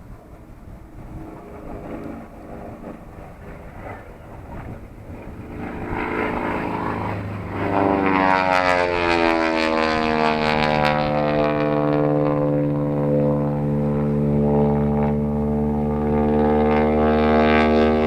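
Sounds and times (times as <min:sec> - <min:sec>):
airplane flying by: 0:00.0 - 0:18.0.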